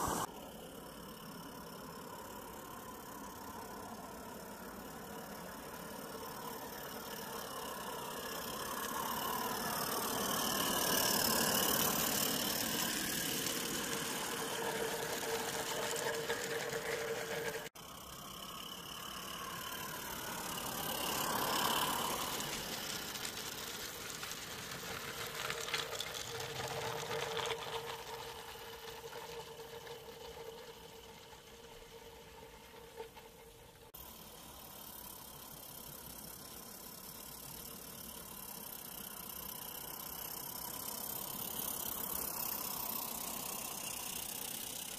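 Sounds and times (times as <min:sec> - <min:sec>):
model steam locomotive chuffing: 0:00.0 - 0:44.9
wheel clicks: 0:00.1 - 0:44.9.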